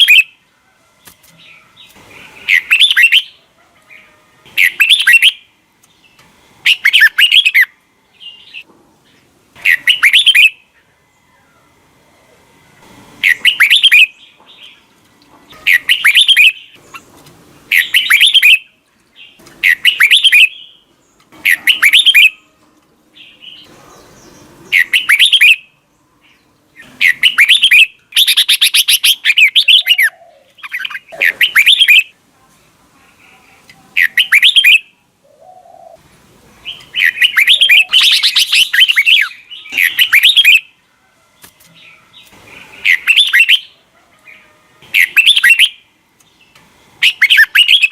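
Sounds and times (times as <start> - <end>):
bird singing warbled phrases: 0.0 - 11.7, 13.2 - 14.9, 15.5 - 32.2, 33.0 - 40.8, 41.4 - 47.9.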